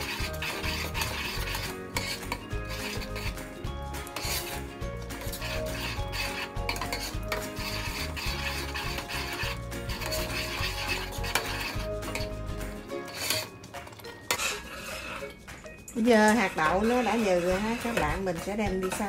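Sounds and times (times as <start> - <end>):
metal spoon scraping a pot: 0.0 - 19.0.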